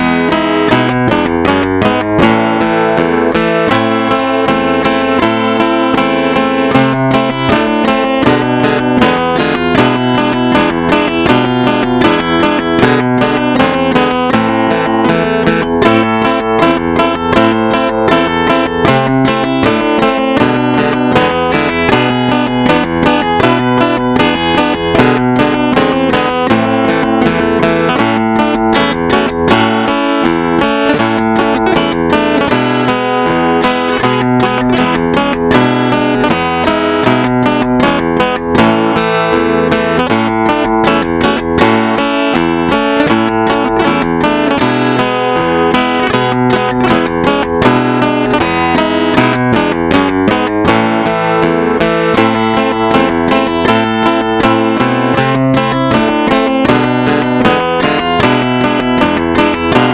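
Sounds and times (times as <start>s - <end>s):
low bass notes: 0.0s - 59.9s
plucked guitar melody: 0.0s - 59.9s.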